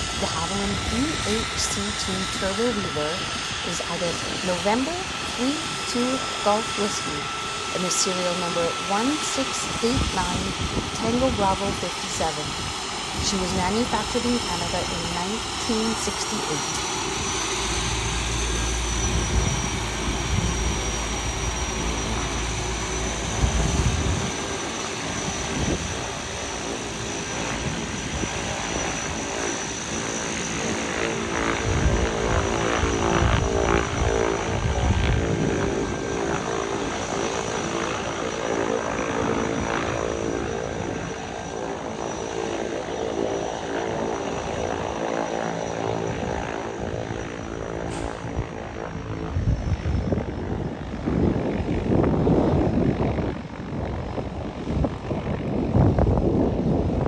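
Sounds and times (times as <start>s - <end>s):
wind buffeting microphone: 0.0s - 7.7s, 8.6s - 38.2s, 43.9s - 57.0s
turboprop engine whine: 0.0s - 57.0s.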